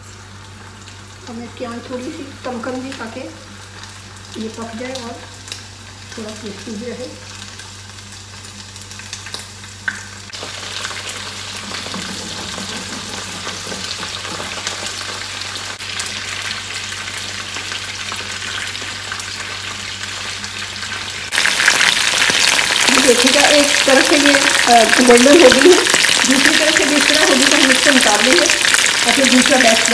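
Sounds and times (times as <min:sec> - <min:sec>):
chicken sizzling in hot oil: 0:00.0 - 0:29.9.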